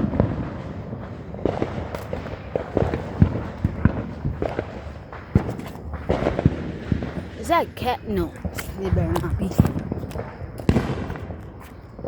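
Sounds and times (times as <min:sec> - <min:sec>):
fireworks popping and cracking: 0:00.0 - 0:12.0.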